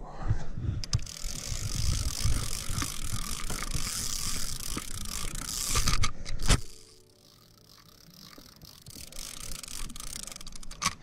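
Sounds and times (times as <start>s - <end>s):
fishing reel ratcheting: 0.8s - 11.0s
sharp reel clicks: 0.8s - 11.0s.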